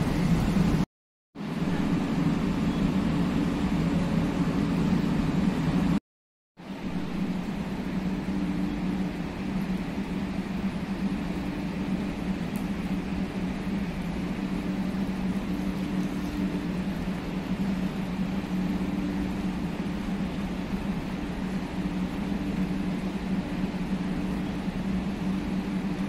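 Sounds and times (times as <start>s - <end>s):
steady machine hum: 0.0s - 6.0s, 6.6s - 26.0s.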